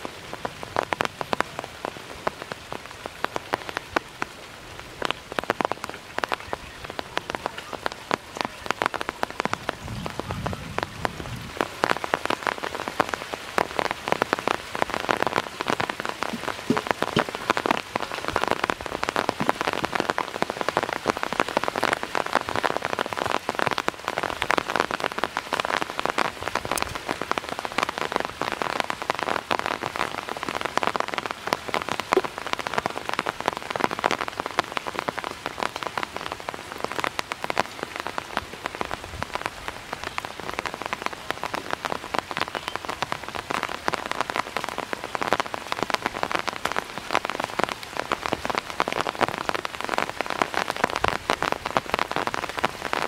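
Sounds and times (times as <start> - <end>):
heavy rain on water: 0.0 - 53.0.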